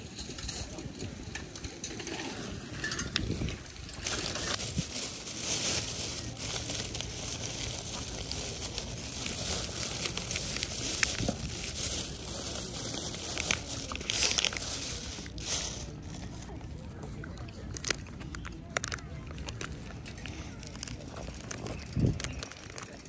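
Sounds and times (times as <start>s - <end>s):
plastic packaging crinkling: 2.9s - 16.6s, 17.7s - 23.0s.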